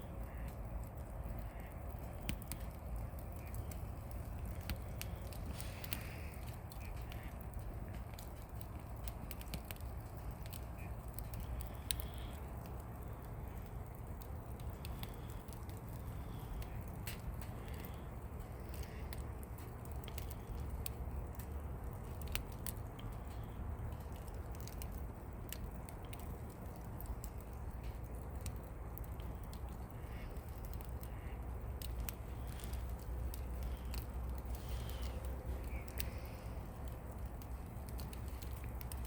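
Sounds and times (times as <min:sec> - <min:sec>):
campfire crackling and popping: 0:00.0 - 0:39.0
fire low rumble: 0:00.0 - 0:39.0.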